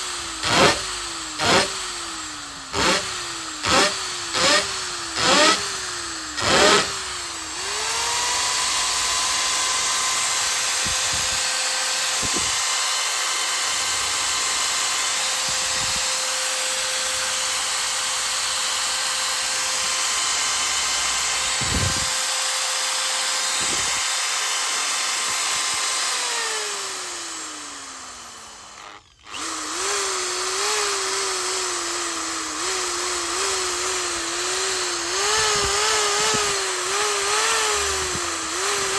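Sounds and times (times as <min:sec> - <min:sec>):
impact drill running: 0:00.0 - 0:38.9.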